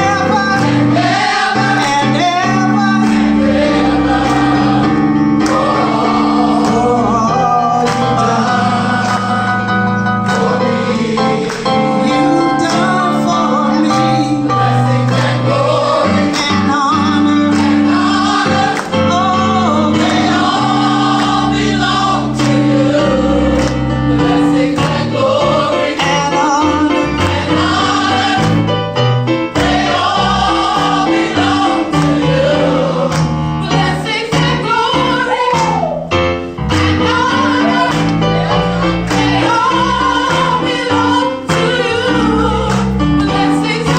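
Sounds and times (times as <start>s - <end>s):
bass and band accompaniment: 0.0s - 43.9s
group singing gospel in harmony: 0.0s - 43.9s.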